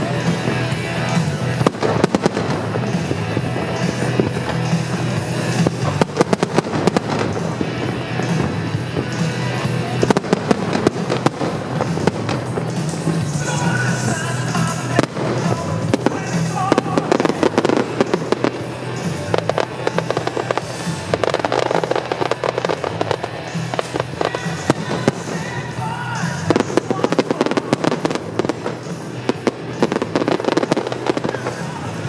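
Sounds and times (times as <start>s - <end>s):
fireworks crackling and banging: 0.0s - 32.0s
music playing: 0.0s - 32.0s.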